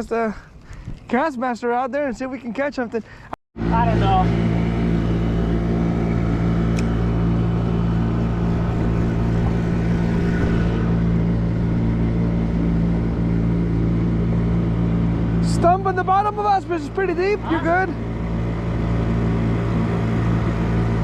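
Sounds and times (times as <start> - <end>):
outboard motor running: 3.1 - 21.0.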